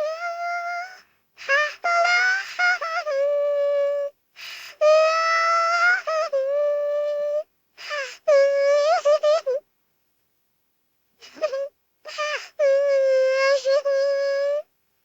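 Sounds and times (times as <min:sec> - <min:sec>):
cartoon girl crying: 0:00.0 - 0:04.0, 0:04.8 - 0:09.6, 0:11.2 - 0:14.6.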